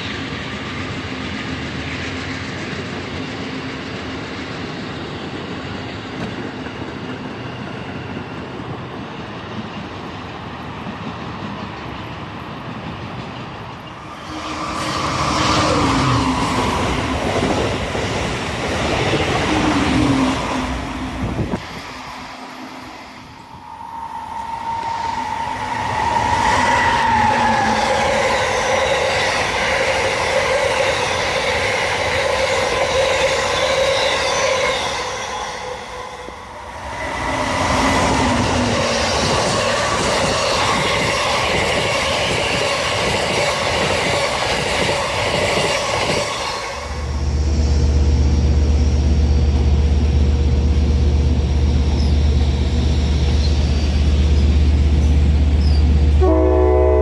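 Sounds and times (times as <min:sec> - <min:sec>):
train wheels rushing on track: 0:00.0 - 0:57.0.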